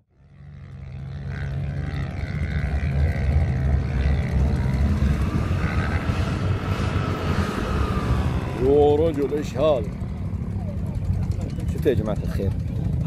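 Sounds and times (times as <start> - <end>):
engine whine: 0.0 - 13.0
truck engine running under load: 0.2 - 13.0.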